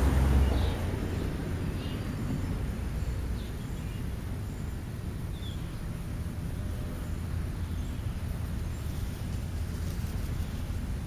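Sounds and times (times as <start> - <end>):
car passing: 0.0 - 11.0
low rumble of traffic: 0.0 - 11.0
wind: 0.0 - 11.0.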